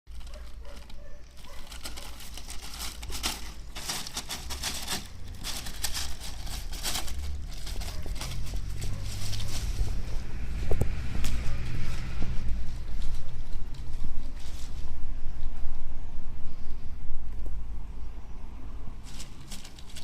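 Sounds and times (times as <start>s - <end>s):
crinkling and scratching noises: 0.1s - 15.8s, 18.9s - 20.0s
steady low rumble: 1.8s - 19.1s.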